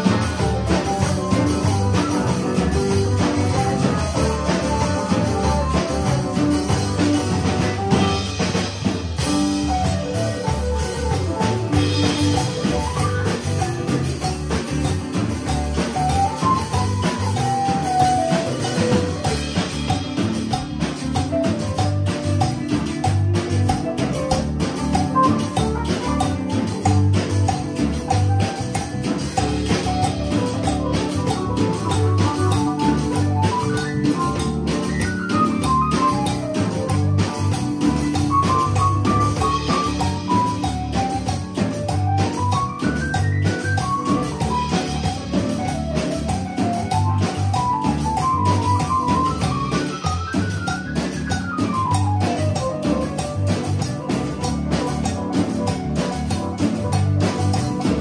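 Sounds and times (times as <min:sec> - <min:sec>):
bass guitar: 0:00.0 - 0:58.0
drum kit steady beat: 0:00.0 - 0:58.0
electric guitar: 0:00.0 - 0:58.0
organ melody on keyboard: 0:00.0 - 0:58.0.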